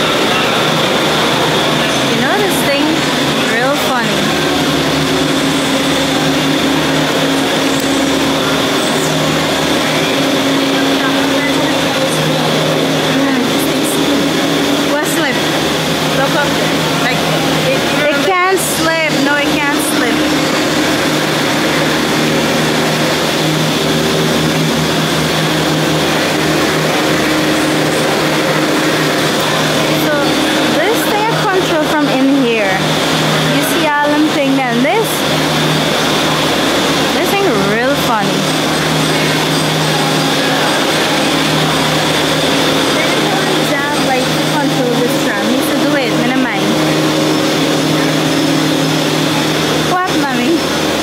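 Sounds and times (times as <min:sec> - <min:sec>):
aerial tramway machinery hum: 0:00.0 - 0:51.0
faint high whine: 0:00.0 - 0:51.0
heavy rain falling: 0:00.0 - 0:51.0.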